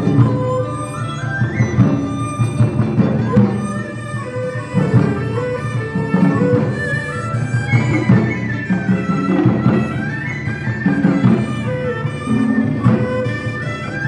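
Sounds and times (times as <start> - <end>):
bamboo flute melody: 0.0 - 14.0
plucked lutes: 0.0 - 14.0.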